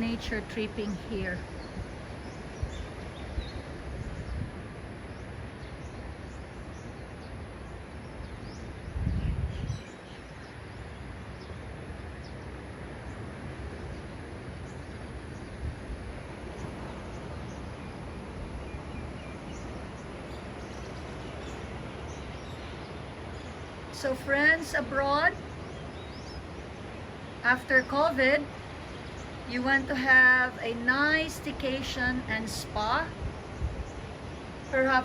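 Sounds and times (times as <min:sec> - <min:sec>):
outdoor background noise: 0:00.0 - 0:35.0.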